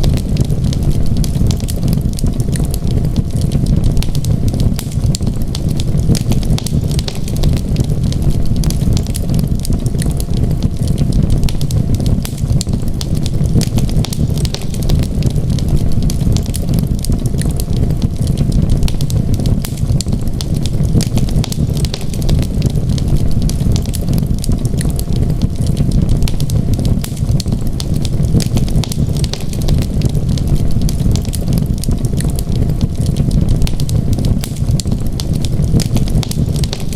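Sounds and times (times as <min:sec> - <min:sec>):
low fire rumble: 0:00.0 - 0:36.9
wood fire crackling: 0:00.0 - 0:36.9.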